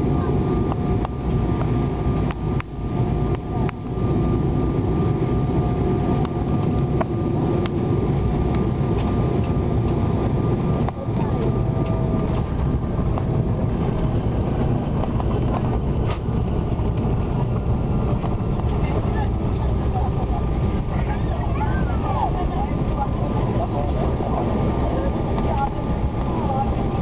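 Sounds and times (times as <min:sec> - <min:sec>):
high engine whine: 0:00.0 - 0:27.0
jet engine rumble and rushing air: 0:00.0 - 0:27.0.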